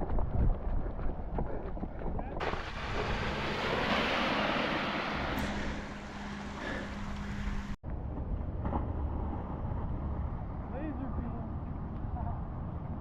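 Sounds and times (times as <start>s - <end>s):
low engine hum: 0.7s - 13.0s.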